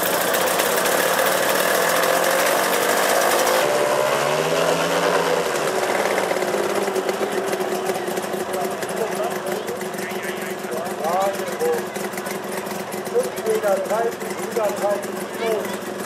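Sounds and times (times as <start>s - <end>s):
model plane engine clattering: 0.0s - 3.7s, 5.5s - 16.0s.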